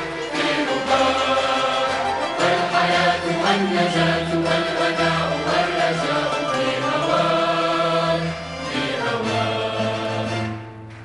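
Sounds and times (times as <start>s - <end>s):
large choir singing: 0.0s - 10.7s
orchestral accompaniment: 0.0s - 11.0s.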